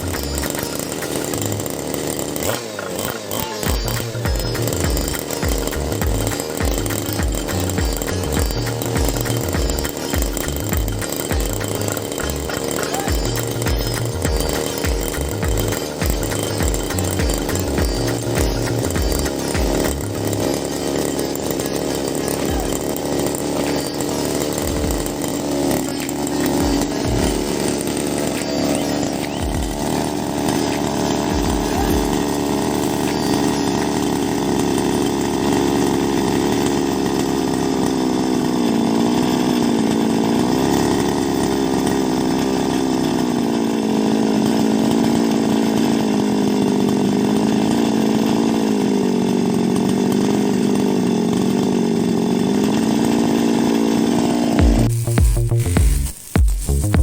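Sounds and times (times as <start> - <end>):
brush cutter engine running: 0.0 - 57.0.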